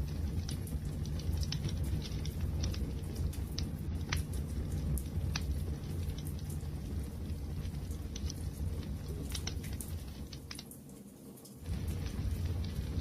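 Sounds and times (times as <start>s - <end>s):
fire low rumble: 0.0s - 11.0s, 11.6s - 13.0s
fire crackles and pops: 0.0s - 13.0s.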